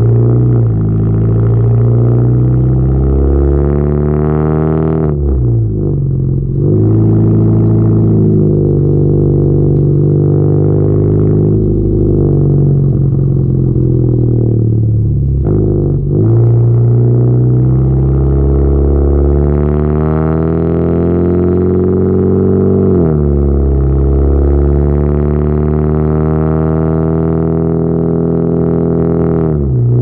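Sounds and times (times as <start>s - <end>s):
loud car exhaust note: 0.0s - 30.0s.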